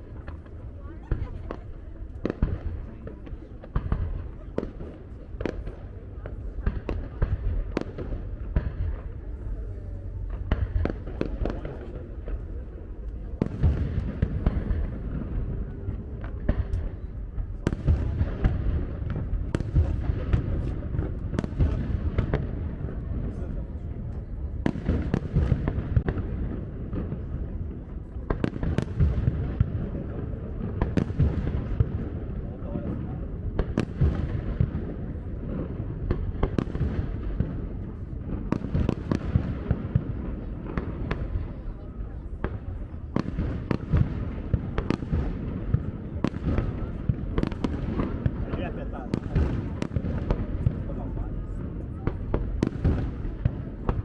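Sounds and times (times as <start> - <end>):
fireworks bangs and crackling: 0.0 - 54.0
low rumble of bursts: 0.0 - 54.0.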